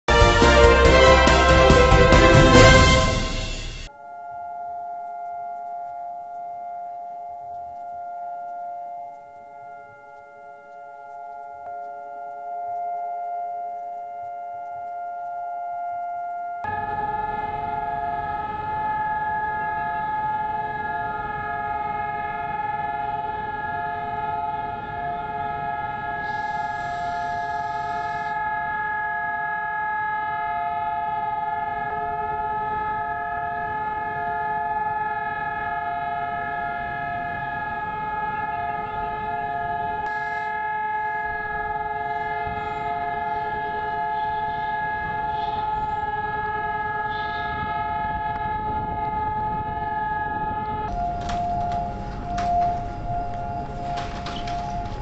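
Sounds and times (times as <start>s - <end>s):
siren steady tone: 0.0s - 55.0s.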